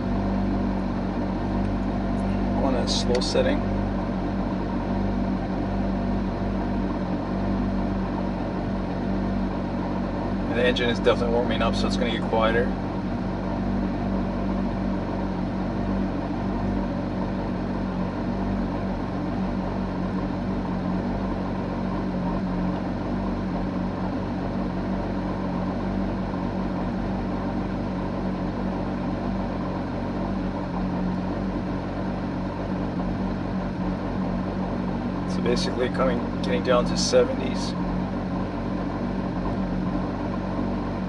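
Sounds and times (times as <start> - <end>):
car engine humming inside cabin: 0.0 - 41.0.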